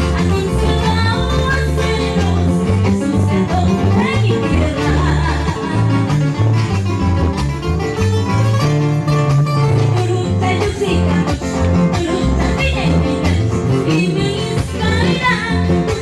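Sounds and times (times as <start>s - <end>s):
acoustic guitars strummed: 0.0s - 16.0s
bass guitar playing: 0.0s - 16.0s.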